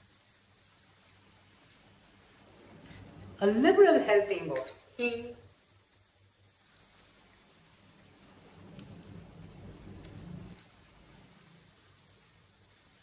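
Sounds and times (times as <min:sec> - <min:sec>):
spices sizzling in hot oil: 0:00.0 - 0:13.0
faint low hum: 0:02.0 - 0:12.9.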